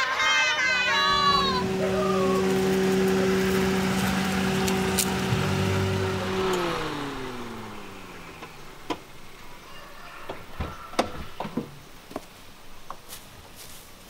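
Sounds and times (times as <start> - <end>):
car engine winding down: 0.7 - 12.9.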